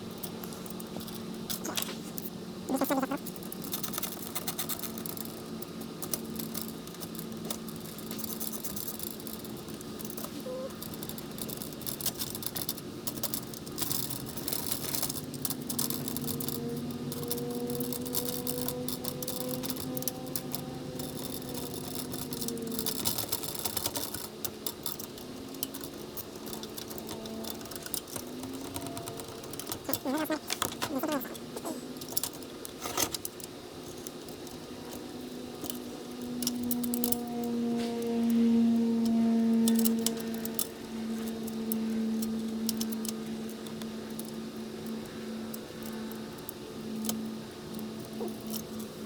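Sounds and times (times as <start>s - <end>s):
metal hardware clicks and rattles: 3.0s - 37.5s, 39.6s - 49.0s.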